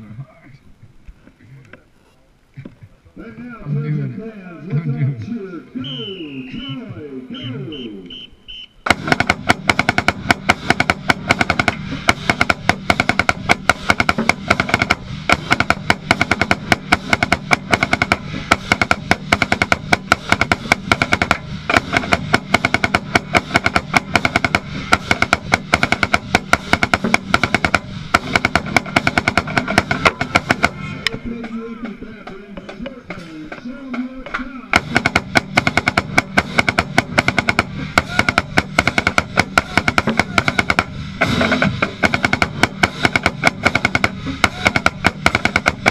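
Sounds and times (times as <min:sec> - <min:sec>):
marching band playing: 0:05.4 - 0:45.9
marching snare drum rolls: 0:08.8 - 0:45.9.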